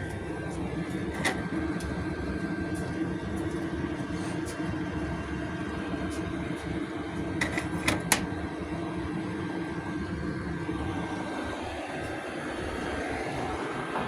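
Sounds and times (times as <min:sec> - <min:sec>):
low mechanical rumble: 0:00.0 - 0:14.0.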